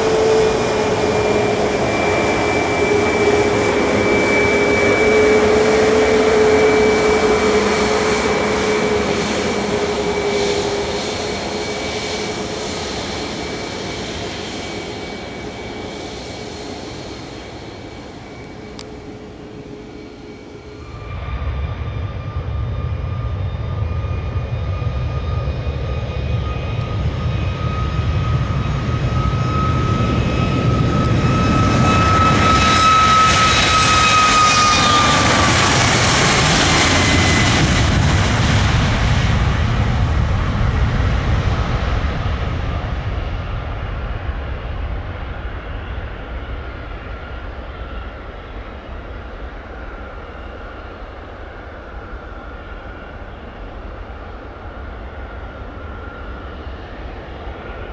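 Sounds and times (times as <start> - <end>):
jet engine low rumble: 0.0 - 57.9
jet engine whine: 0.0 - 57.9.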